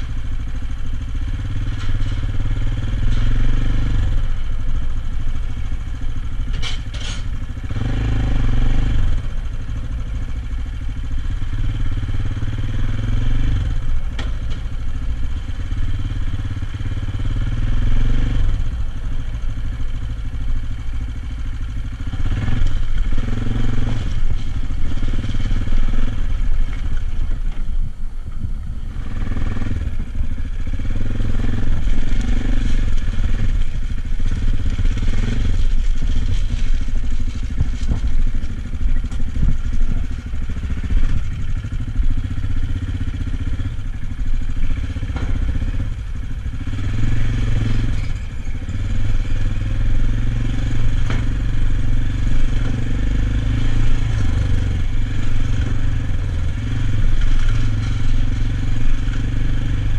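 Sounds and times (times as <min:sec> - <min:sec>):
motorcycle clatter: 0:00.0 - 0:08.0, 0:13.8 - 0:17.4, 0:18.5 - 0:59.9
motorcycle engine running: 0:00.0 - 0:59.9.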